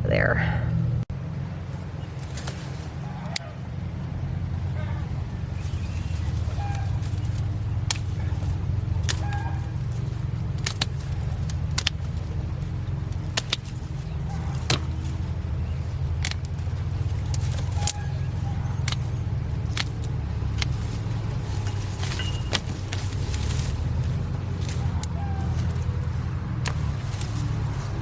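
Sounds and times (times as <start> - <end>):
low engine-like hum: 0.0 - 28.0
shears snipping stems: 1.8 - 3.8, 4.6 - 28.0.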